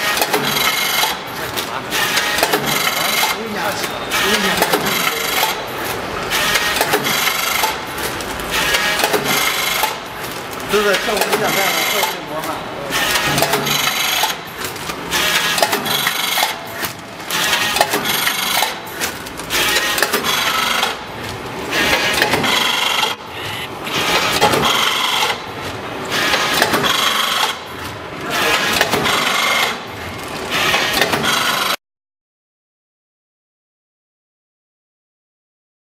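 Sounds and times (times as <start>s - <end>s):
packing machine clattering: 0.0s - 31.7s.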